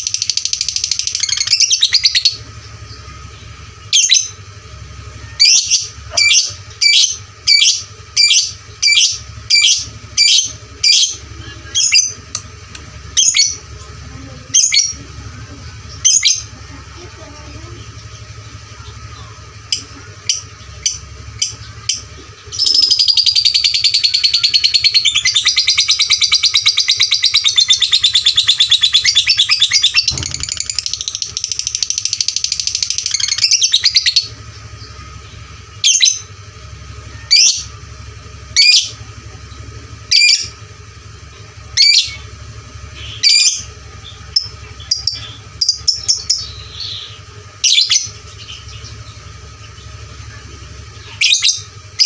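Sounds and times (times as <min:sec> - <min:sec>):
lovebird chirping and trilling: 0:00.0 - 0:52.0.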